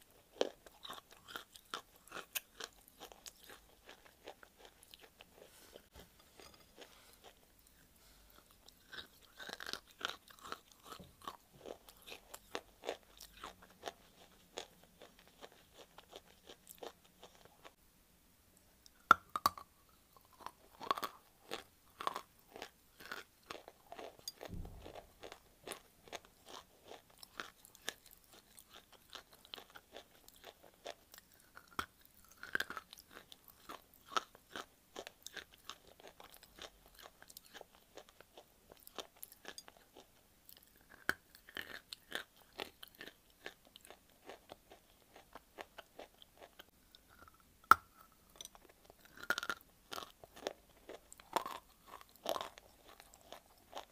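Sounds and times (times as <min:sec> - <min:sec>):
dry chewing crunches: 0:00.1 - 0:17.8, 0:20.2 - 0:47.4, 0:48.0 - 0:53.9.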